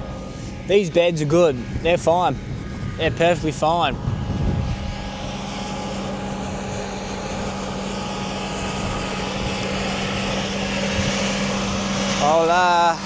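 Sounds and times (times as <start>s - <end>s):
broad rushing noise: 0.0s - 13.0s
engine and fan hum: 0.0s - 13.0s.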